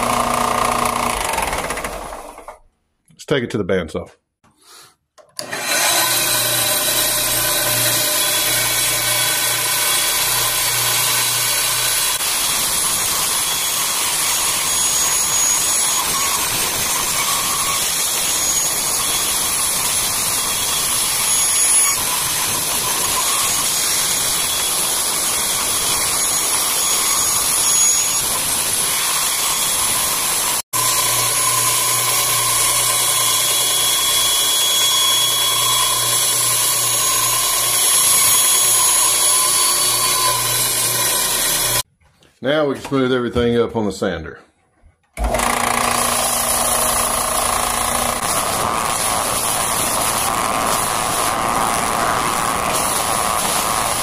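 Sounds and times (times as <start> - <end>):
bandsaw cutting wood: 0.0 - 2.6, 5.4 - 41.8, 45.2 - 54.0.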